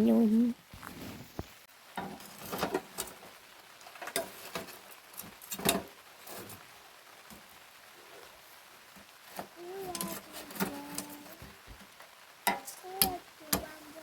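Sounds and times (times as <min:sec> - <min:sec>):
light clicks and rustles: 0:00.8 - 0:07.5, 0:08.9 - 0:14.0.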